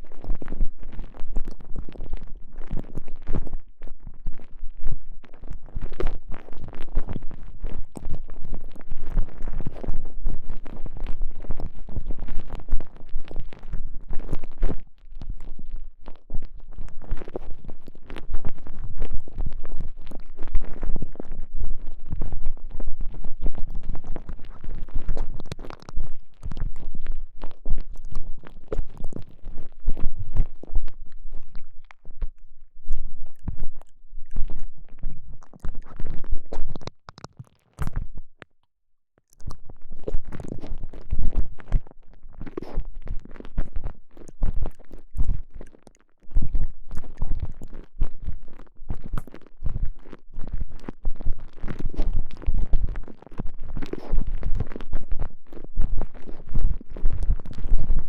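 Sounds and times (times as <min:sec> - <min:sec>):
squishing and crackling sleeve: 0:00.0 - 0:38.2, 0:39.4 - 0:58.0.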